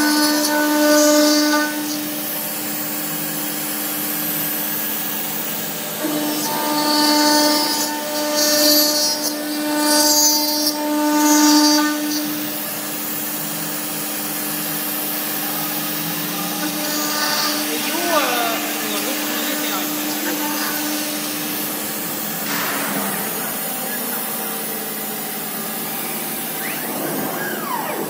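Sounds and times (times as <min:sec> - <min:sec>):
cnc router spindle whine: 0:00.0 - 0:28.0
end mill cutting aluminium: 0:00.0 - 0:28.0.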